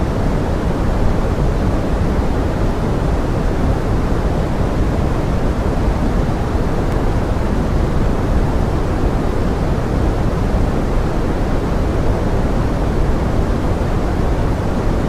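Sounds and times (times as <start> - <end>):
pink noise: 0.0 - 15.0.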